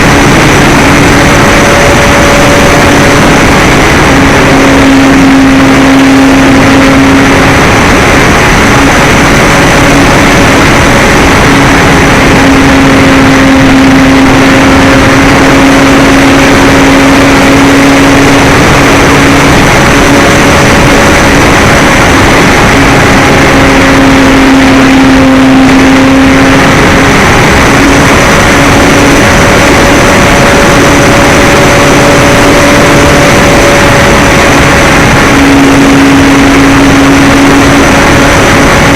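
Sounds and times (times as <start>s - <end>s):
air rushing: 0.0s - 38.9s
model airplane motor and propeller: 0.0s - 38.9s.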